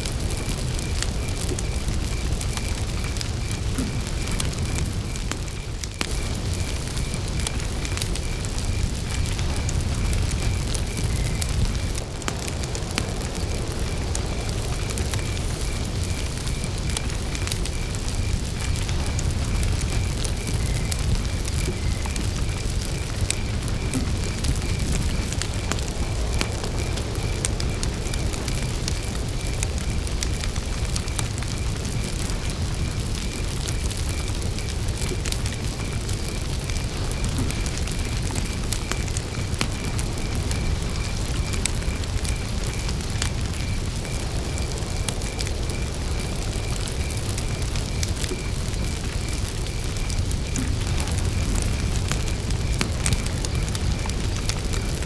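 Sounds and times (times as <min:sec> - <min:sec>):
burning wood crackling: 0:00.0 - 0:55.0
campfire flames rumbling: 0:00.0 - 0:55.0
cricket chirping: 0:00.0 - 0:55.0.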